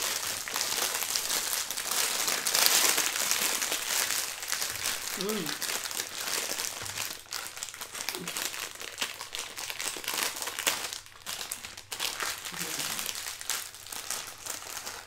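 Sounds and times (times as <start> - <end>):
wrapper crinkling: 0.0 - 15.0.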